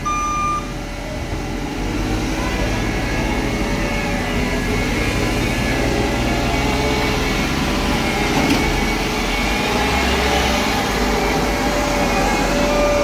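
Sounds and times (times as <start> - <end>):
diesel engine low hum: 0.0 - 13.0
machinery whines: 0.0 - 13.0.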